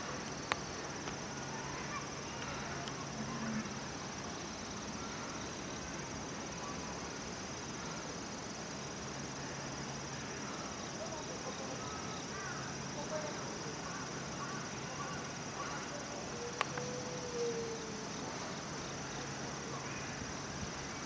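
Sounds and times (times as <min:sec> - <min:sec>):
faint distant voices: 0:00.0 - 0:21.0
high-pitched insect trill: 0:00.0 - 0:21.0.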